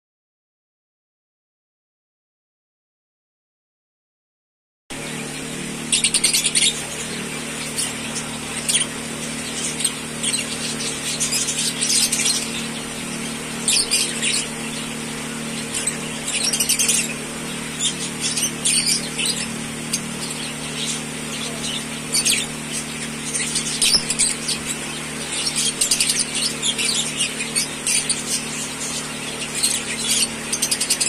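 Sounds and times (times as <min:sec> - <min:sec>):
steady low hum: 0:04.9 - 0:31.0
lovebirds chirping: 0:05.0 - 0:31.0.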